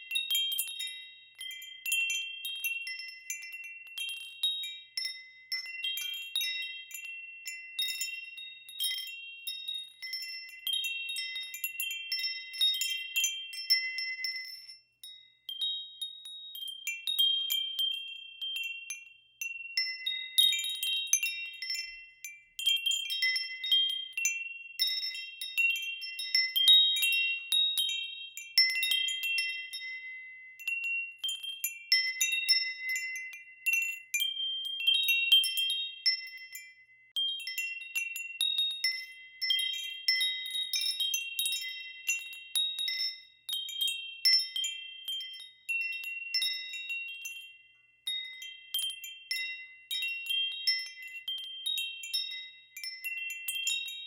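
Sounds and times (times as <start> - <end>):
metal wind chimes ringing: 0.0 - 54.0.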